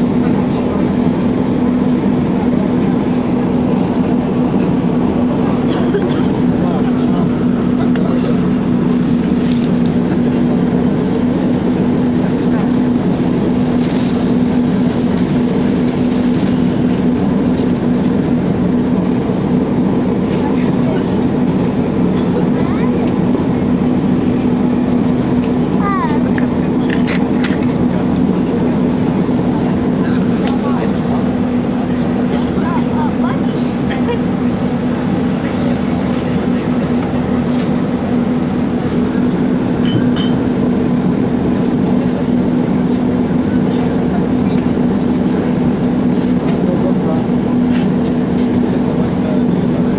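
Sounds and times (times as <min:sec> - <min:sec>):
tram droning hum: 0:00.0 - 0:49.9
tram rolling noise: 0:00.0 - 0:49.9.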